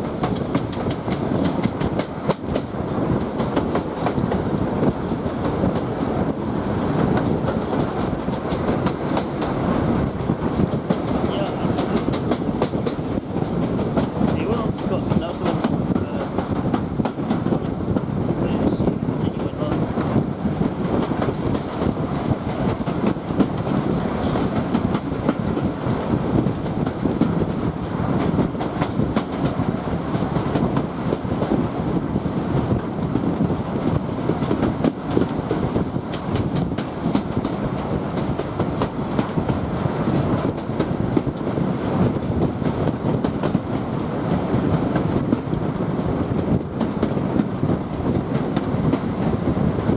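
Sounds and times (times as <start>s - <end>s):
train coach rumbling: 0.0s - 49.9s.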